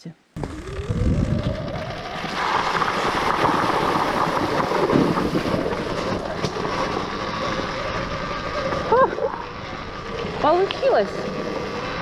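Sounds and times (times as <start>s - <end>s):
bike tyres on dirt and stones: 0.4s - 12.0s
wind buffeting microphone: 0.4s - 12.0s.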